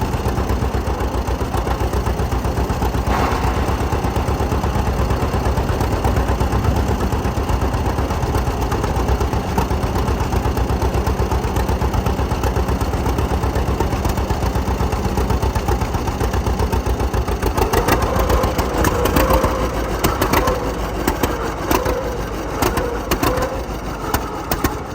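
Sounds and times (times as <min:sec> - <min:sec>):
tractor engine pulsing: 0:00.0 - 0:24.9.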